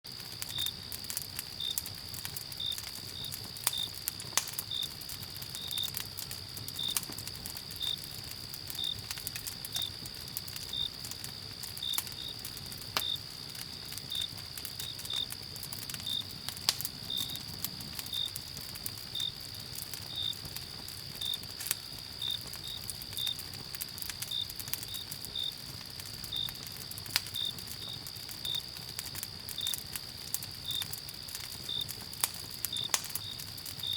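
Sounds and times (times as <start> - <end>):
campfire crackling and popping: 0.1 - 33.9
crickets trilling: 0.1 - 33.9
cricket chirping: 0.2 - 33.9.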